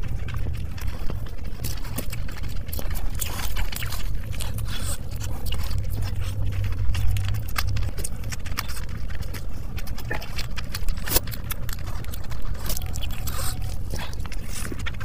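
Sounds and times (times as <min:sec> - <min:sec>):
chewing and biting food: 0:00.0 - 0:15.0
steady low rumble: 0:00.0 - 0:15.0.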